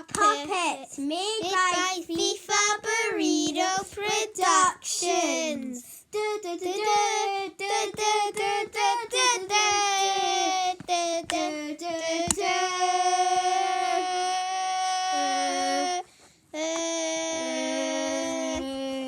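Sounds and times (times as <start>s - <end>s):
child singing: 0.0s - 19.0s.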